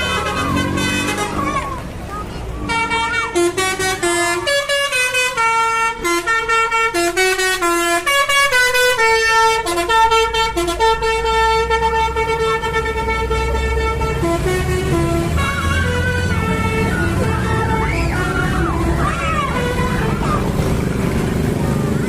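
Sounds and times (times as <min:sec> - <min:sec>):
bus horn playing a tune: 0:00.0 - 0:21.9.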